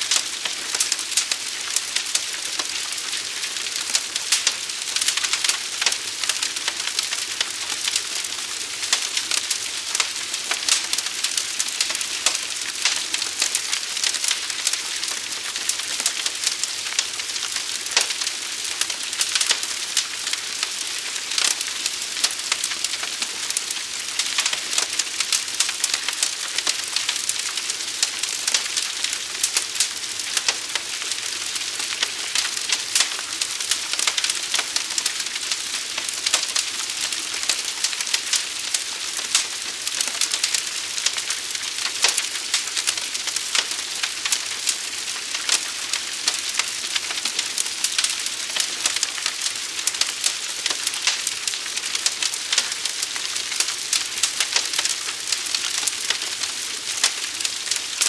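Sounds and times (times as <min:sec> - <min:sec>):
forest fire crackling: 0:00.0 - 0:58.0.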